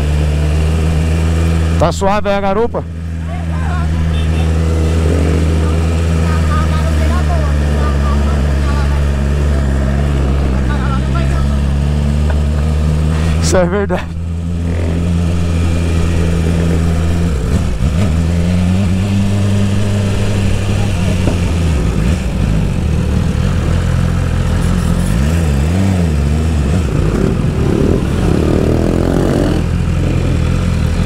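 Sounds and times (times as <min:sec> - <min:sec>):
motorcycle engine droning: 0:00.0 - 0:31.0.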